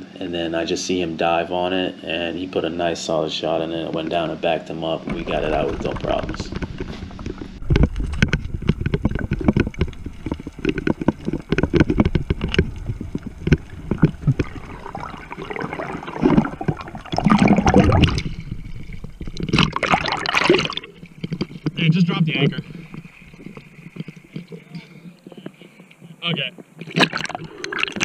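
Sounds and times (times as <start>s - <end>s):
rushing water and bubbles: 4.0s - 28.0s
underwater crackling clicks: 5.1s - 28.0s.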